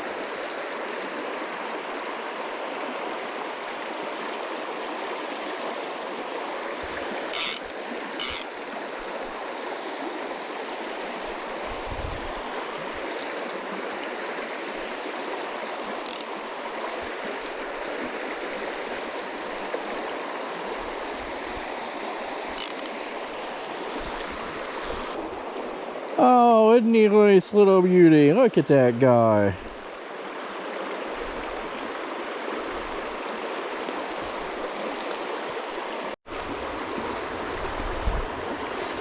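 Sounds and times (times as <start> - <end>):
creek running over rocks: 0.0 - 39.0.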